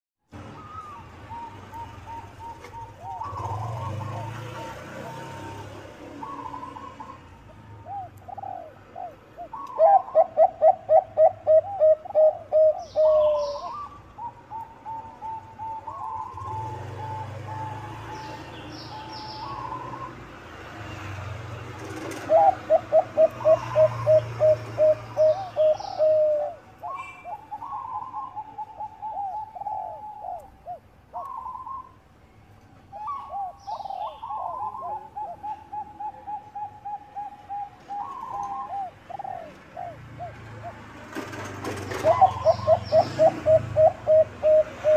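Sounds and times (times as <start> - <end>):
small birds chirping: 0.3 - 41.1, 41.9 - 44.9
doves cooing: 0.4 - 20.3, 21.8 - 32.0, 32.9 - 44.9.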